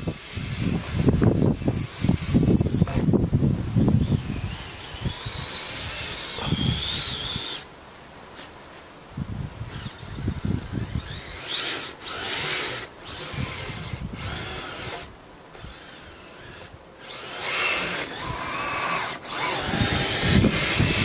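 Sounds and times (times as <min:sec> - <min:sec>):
electric motors whining: 0:00.0 - 0:03.2, 0:03.8 - 0:07.7, 0:09.7 - 0:21.0.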